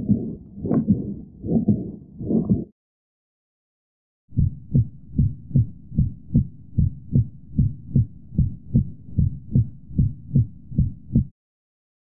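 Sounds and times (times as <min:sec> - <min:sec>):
heartbeat through stethoscope: 0:00.0 - 0:02.7, 0:04.3 - 0:11.3.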